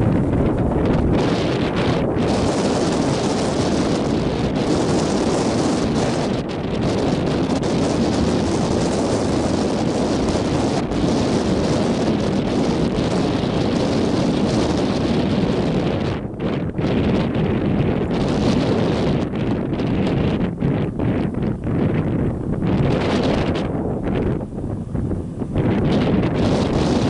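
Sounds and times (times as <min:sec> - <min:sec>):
strong wind on microphone: 0:00.0 - 0:27.0.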